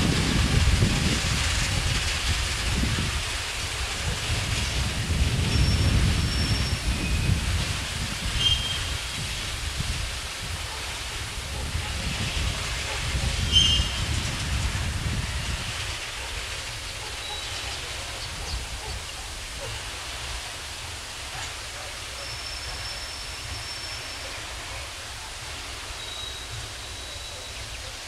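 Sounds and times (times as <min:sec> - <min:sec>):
wagons rumbling on track: 0:00.0 - 0:28.0.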